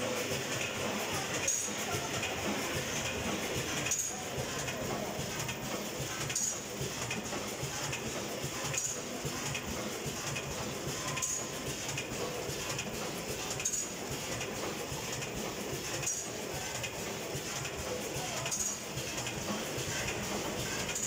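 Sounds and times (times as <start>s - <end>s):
packing machine clatter: 0.0s - 21.0s.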